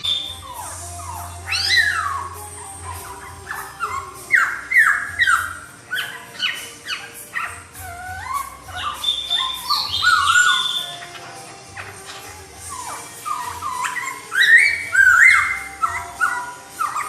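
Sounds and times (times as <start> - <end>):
laughingthrush singing whistled notes: 0.0 - 17.0.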